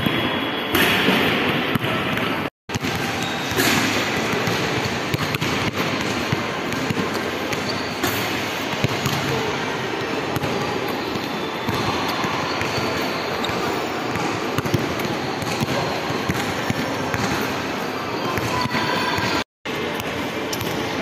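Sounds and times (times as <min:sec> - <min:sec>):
indoor crowd hubbub: 0:00.0 - 0:21.0.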